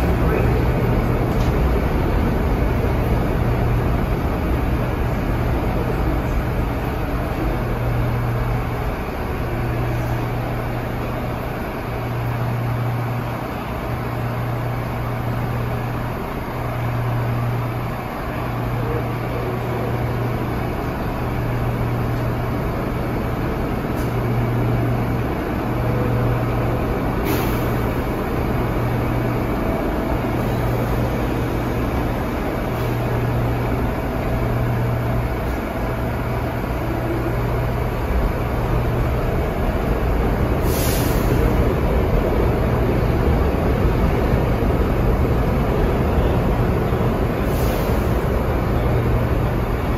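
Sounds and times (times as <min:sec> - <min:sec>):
subway car equipment pulsing hum: 0:00.0 - 0:49.9.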